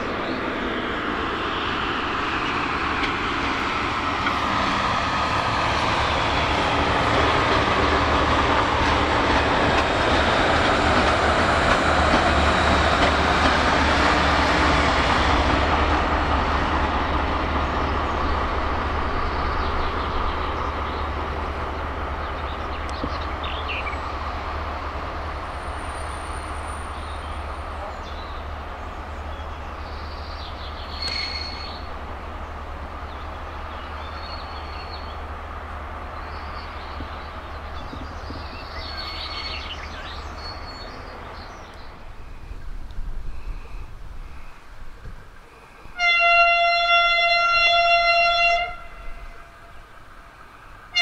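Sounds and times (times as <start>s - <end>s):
diesel locomotive engine drone: 0.0s - 51.0s
train wheels on rails: 0.0s - 51.0s.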